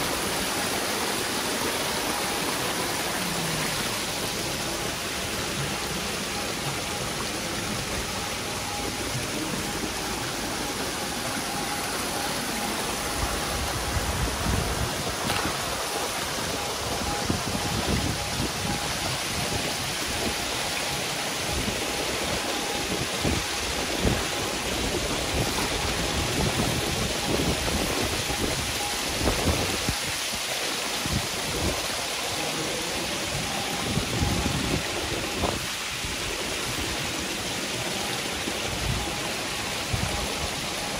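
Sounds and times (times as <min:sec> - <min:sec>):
fish churning water: 0:00.0 - 0:40.9.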